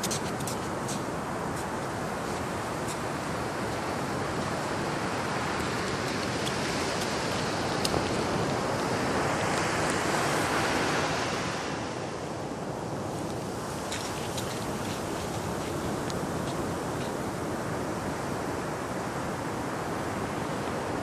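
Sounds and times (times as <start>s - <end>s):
waves washing onto beach: 0.0s - 21.0s.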